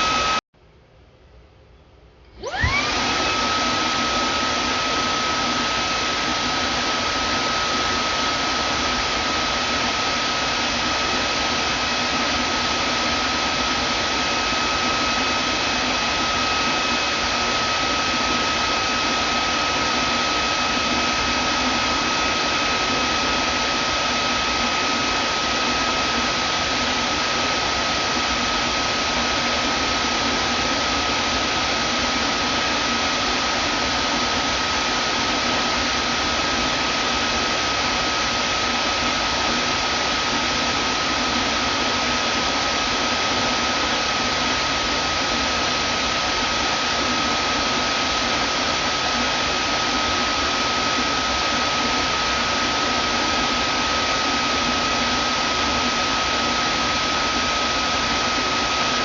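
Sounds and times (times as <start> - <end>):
vacuum cleaner motor whining: 0.0 - 0.4, 2.3 - 59.0.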